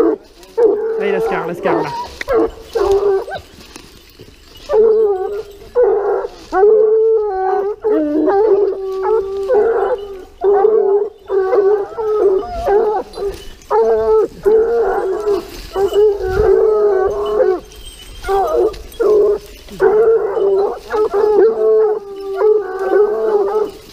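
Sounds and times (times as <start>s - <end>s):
hounds baying: 0.0s - 23.9s.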